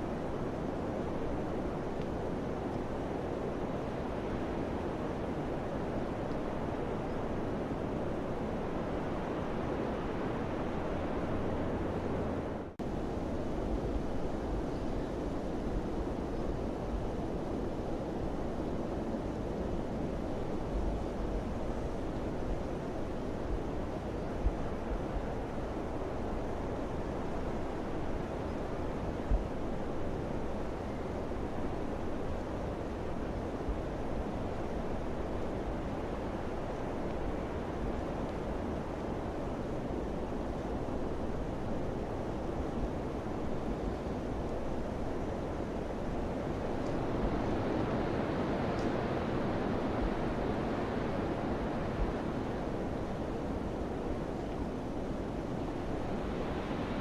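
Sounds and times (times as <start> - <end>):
wind gusts thumping on microphone: 0.0 - 57.0.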